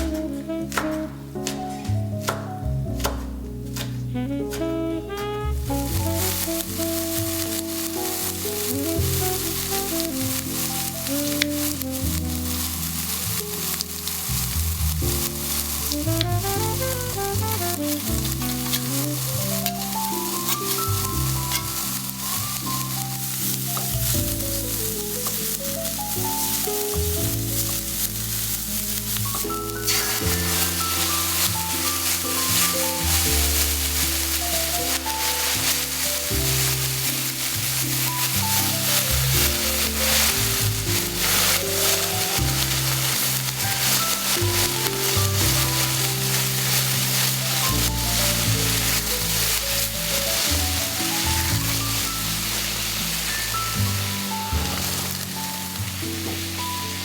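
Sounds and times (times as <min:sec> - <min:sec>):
background music melody: 0:00.0 - 0:57.0
food sizzling in a frying pan: 0:05.9 - 0:57.0.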